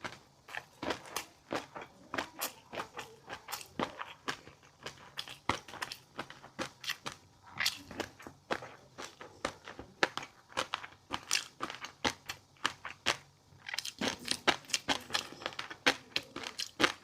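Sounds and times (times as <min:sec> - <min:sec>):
crunchy eating: 0:00.0 - 0:17.0.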